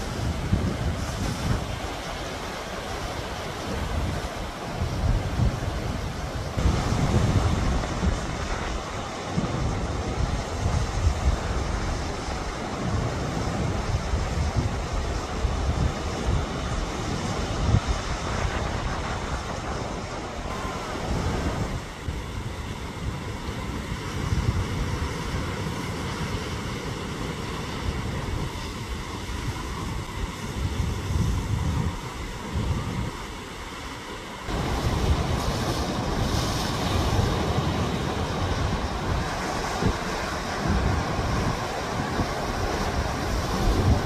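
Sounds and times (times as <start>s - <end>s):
wind gusting on microphone: 0.0s - 44.0s.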